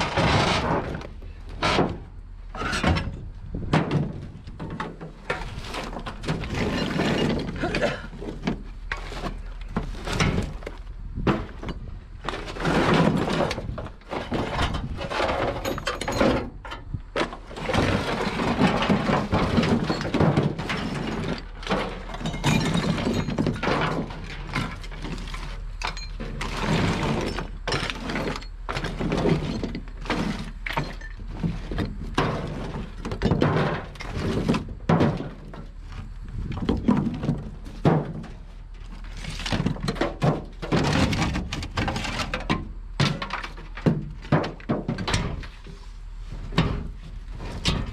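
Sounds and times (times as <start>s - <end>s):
scrap metal clanking and clattering: 0.0s - 47.9s.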